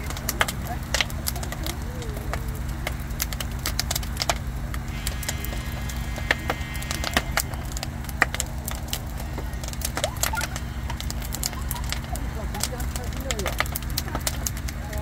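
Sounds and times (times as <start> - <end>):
bonfire crackling and popping: 0.0 - 15.0
low rumble: 0.0 - 15.0.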